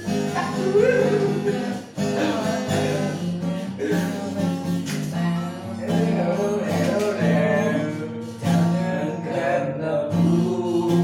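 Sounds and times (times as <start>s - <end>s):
guitar playing: 0.0s - 11.0s.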